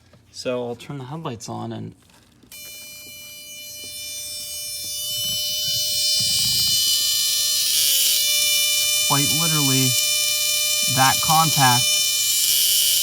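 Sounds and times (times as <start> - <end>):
warning buzzer buzzing: 2.5 - 13.0.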